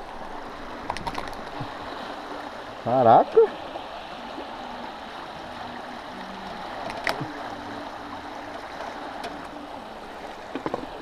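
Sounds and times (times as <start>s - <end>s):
river current rushing: 0.0s - 11.0s.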